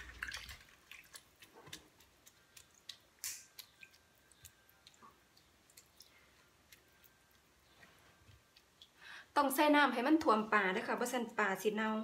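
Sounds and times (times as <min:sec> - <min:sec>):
faint clicks and wet sounds: 0:00.0 - 0:10.4.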